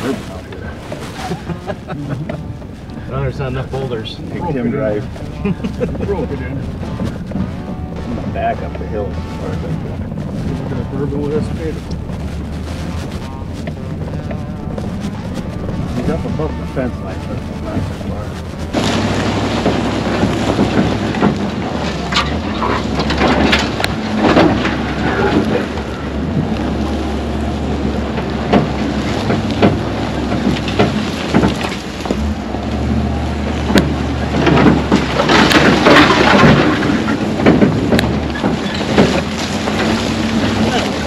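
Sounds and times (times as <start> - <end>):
low vehicle rumble: 0.0 - 41.0
wind buffeting microphone: 0.0 - 41.0
knocks and rattles from bumps: 5.0 - 41.0.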